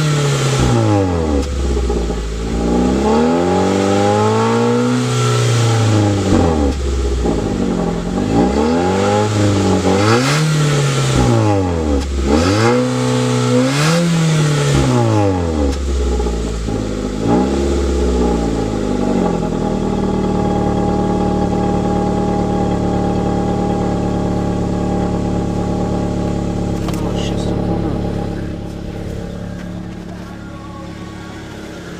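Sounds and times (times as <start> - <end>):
car engine revving and idling: 0.0 - 31.9.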